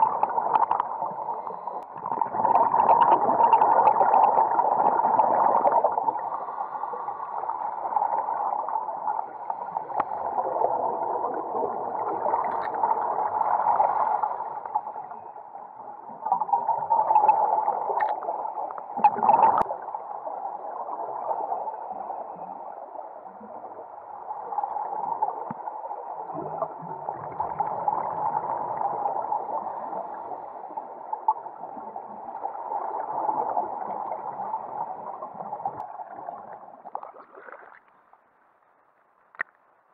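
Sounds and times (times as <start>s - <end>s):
underwater bubbles gurgling: 0.0s - 38.2s.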